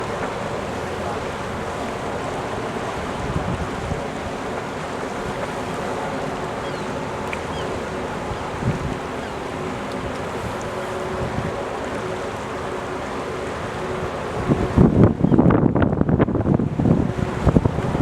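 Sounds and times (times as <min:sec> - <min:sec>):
wind buffeting microphone: 0:00.0 - 0:12.6, 0:13.5 - 0:18.0
rushing water: 0:00.0 - 0:18.0.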